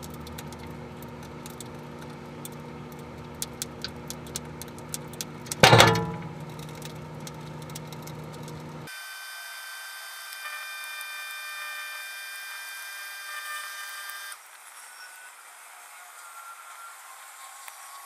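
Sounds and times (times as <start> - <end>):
sped-up microwave whine: 0.0 - 18.0.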